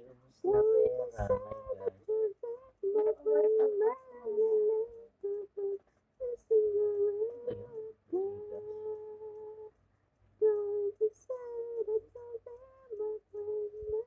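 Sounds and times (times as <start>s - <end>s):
woman humming: 0.5s - 9.7s, 10.4s - 14.0s.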